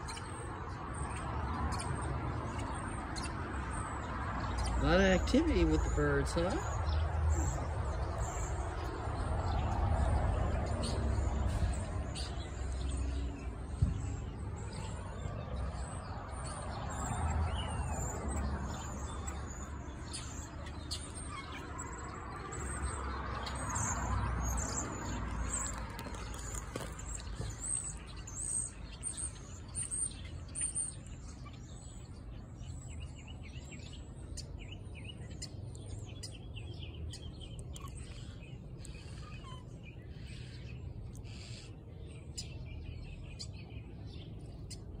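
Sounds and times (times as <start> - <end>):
flock of birds chirping: 0.0 - 45.0.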